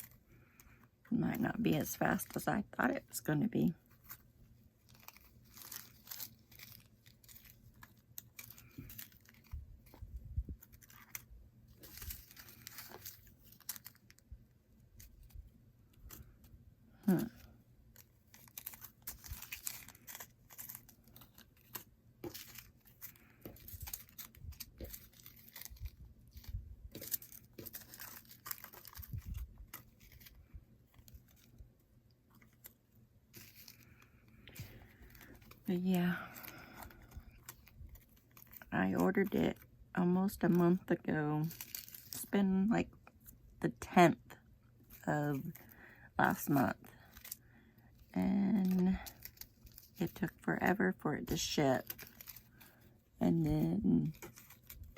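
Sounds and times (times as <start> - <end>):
plastic bags rustling and crinkling: 1.2 - 31.7, 32.4 - 42.3, 44.8 - 54.9.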